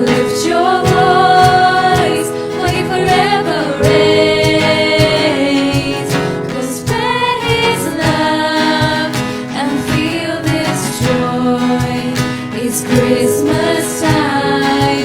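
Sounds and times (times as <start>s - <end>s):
steady drum beat: 0.0s - 12.2s
band and singers performing: 0.0s - 15.0s.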